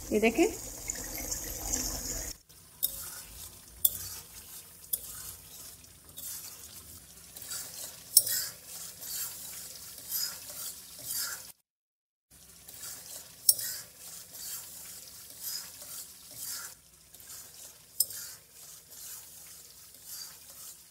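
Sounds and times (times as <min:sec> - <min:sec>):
food sizzling: 0:00.0 - 0:11.6, 0:12.3 - 0:20.9.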